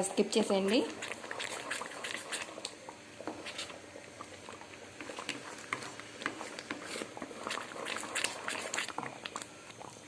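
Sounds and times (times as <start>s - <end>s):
thick halwa bubbling and popping: 0.7s - 10.0s.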